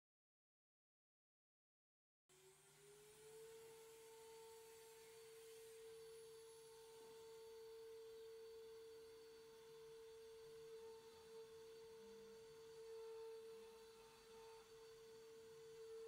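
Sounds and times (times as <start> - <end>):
router spindle high whine: 2.3 - 16.0.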